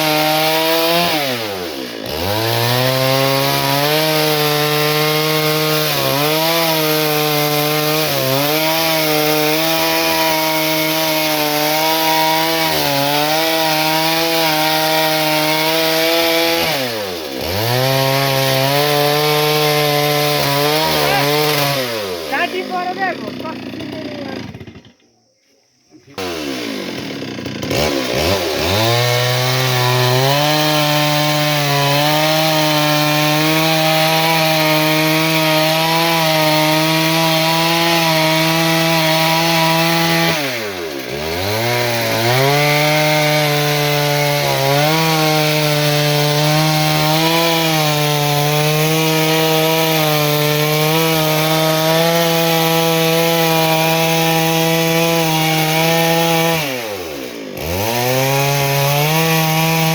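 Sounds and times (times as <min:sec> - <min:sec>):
chainsaw engine running: 0:00.0 - 0:25.2, 0:26.0 - 0:59.9.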